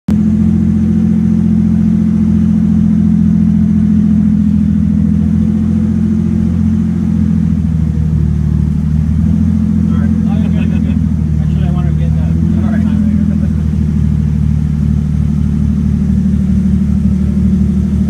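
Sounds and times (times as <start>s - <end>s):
boat engine droning: 0.1s - 18.0s.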